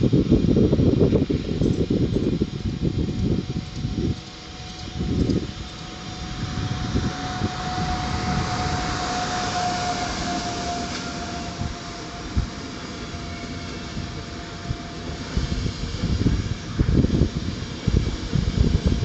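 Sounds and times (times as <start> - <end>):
train wheels rumbling on rails: 0.0 - 19.0
train whine: 0.0 - 19.0.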